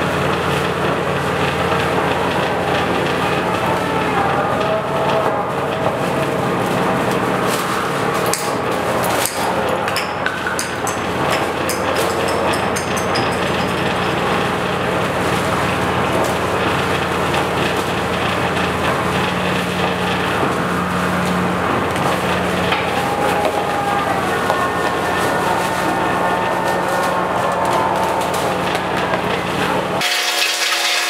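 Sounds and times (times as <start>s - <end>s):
steady droning hum: 0.0s - 30.0s.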